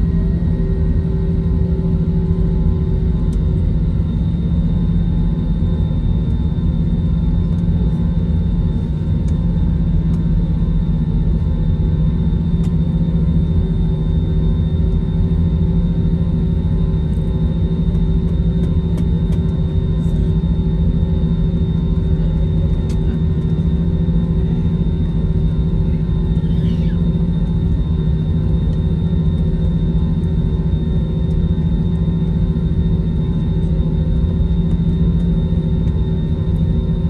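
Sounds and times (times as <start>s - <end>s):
droning hum: 0.0s - 37.0s
jet engines idling in cabin: 0.0s - 37.0s.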